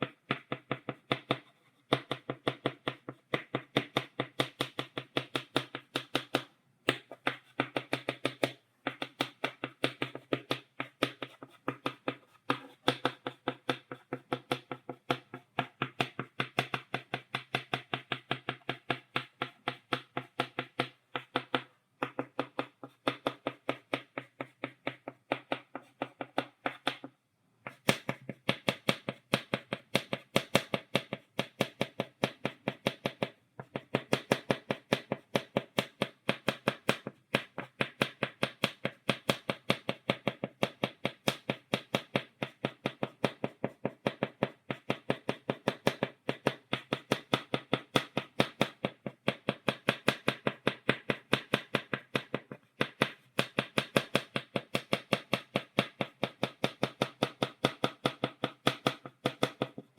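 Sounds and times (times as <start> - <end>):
chalk tapping on blackboard: 0.0 - 59.9.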